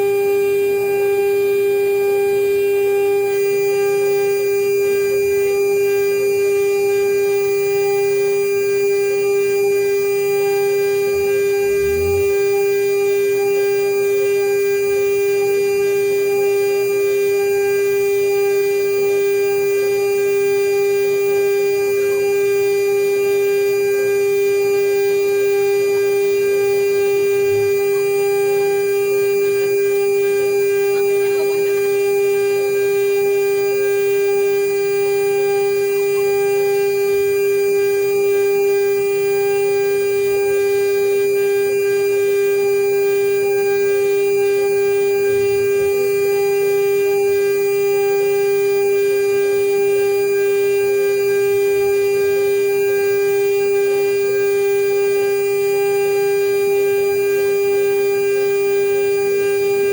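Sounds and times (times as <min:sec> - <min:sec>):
router spindle whining: 0:00.0 - 0:59.9.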